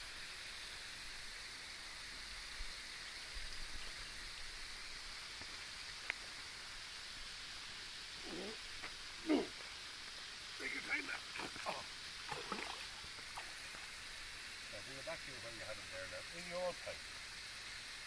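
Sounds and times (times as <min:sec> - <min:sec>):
steady outdoor hiss: 0:00.0 - 0:18.0.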